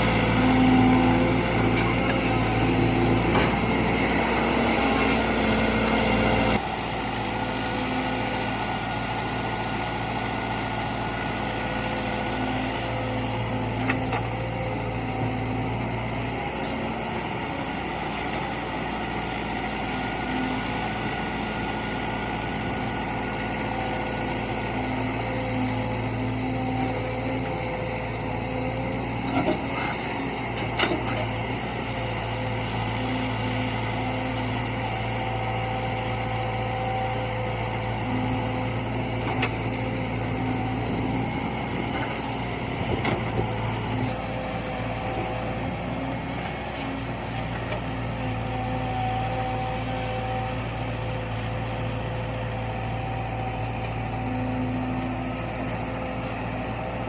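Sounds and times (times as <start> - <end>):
construction machine engine running: 0.0 - 57.0.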